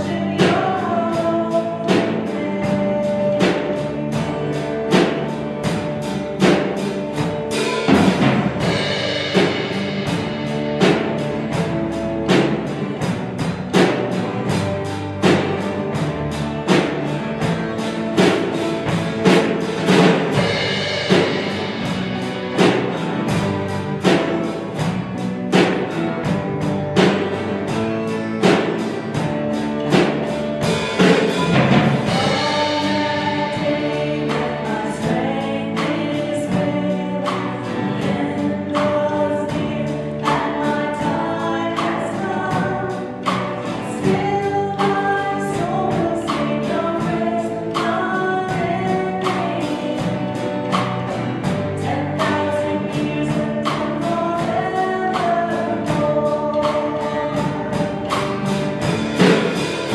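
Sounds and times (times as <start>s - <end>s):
acoustic guitar: 0.0s - 59.9s
bass guitar: 0.0s - 59.9s
drum kit steady beat: 0.0s - 59.9s
electric guitar: 0.0s - 59.9s
keyboard: 0.0s - 59.9s.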